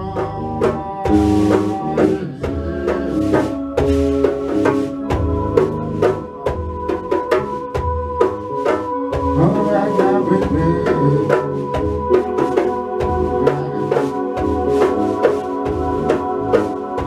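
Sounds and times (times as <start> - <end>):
electric bass: 0.0 - 17.0
hand-drum rhythm: 0.0 - 17.0
keyboard chords: 0.0 - 17.0.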